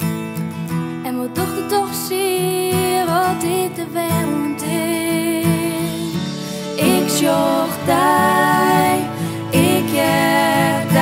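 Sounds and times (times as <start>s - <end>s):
strummed acoustic guitar: 0.0s - 11.0s
woman singing: 1.0s - 11.0s.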